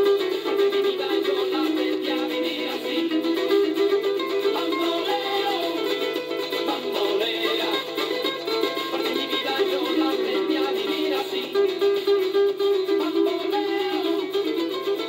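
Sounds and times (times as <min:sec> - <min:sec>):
rumba music with plucked strings: 0:00.0 - 0:15.0.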